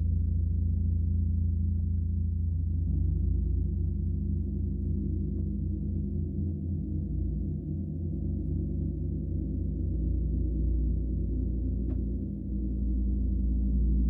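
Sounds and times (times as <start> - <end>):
gong resonating low drone: 0.0 - 14.0.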